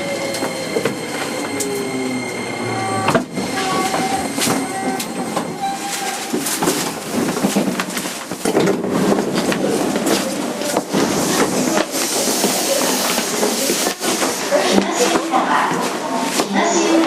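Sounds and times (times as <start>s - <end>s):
electric train running: 0.0s - 15.2s.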